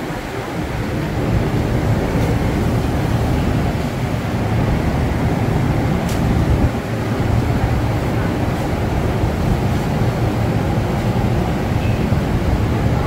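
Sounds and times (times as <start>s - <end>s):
shopping mall rumble: 0.0s - 13.0s.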